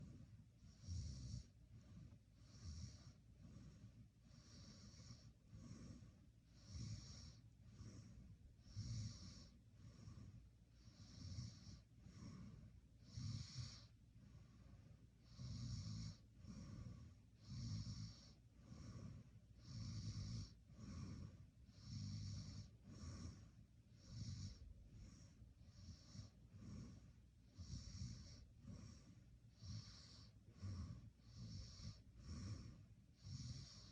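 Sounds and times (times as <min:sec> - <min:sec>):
person snoring faintly: 0:00.0 - 0:33.9.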